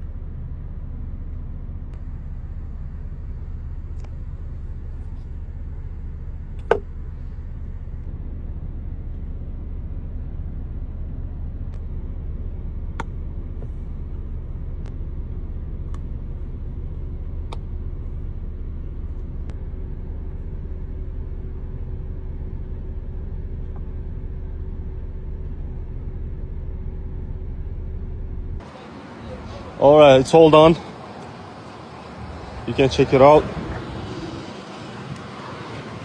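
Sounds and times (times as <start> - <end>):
car engine rumble: 0.0 - 36.0.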